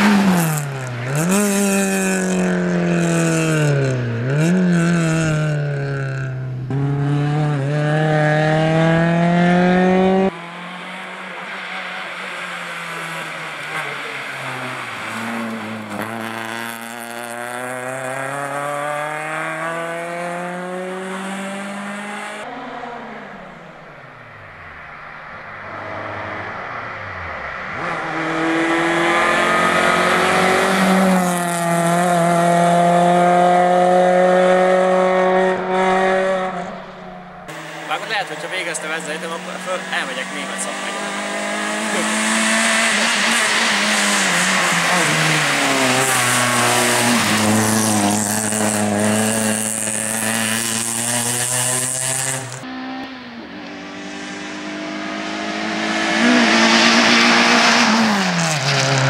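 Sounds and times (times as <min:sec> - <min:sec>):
rally car engine revving: 0:00.0 - 0:59.0
car passing by: 0:07.0 - 0:59.0.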